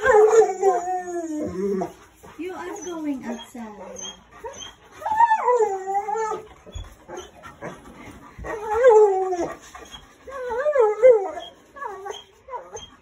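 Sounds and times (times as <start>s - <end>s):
dog whining: 0.0s - 2.0s, 2.6s - 13.0s.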